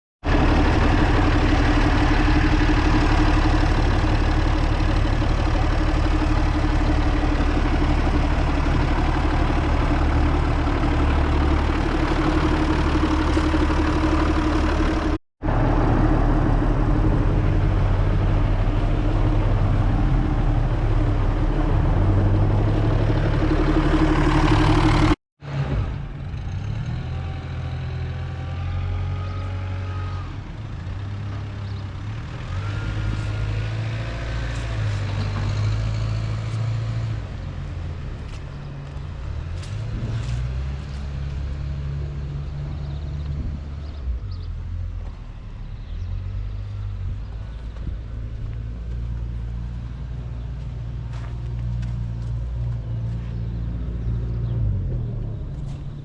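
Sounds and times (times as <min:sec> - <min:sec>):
diesel tractor engine running: 0:00.2 - 0:56.0.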